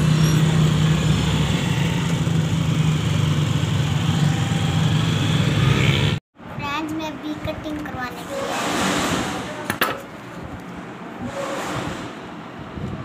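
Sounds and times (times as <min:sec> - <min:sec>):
road and rattle noise: 0:00.0 - 0:13.0.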